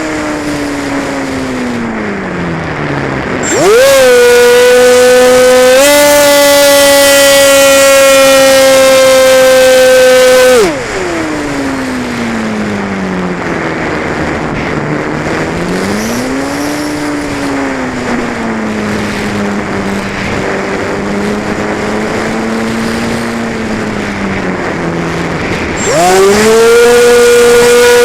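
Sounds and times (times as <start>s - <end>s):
model airplane motor and propeller: 0.0s - 28.0s.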